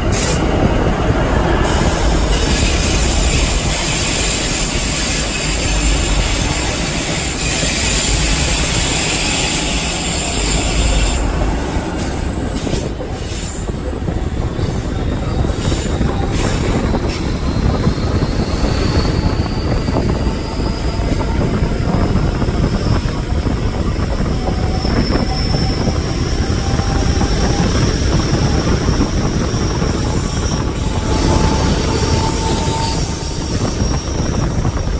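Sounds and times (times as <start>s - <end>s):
train wheels rumbling on rail: 0.0s - 34.9s
wind rushing over microphone: 0.0s - 34.9s.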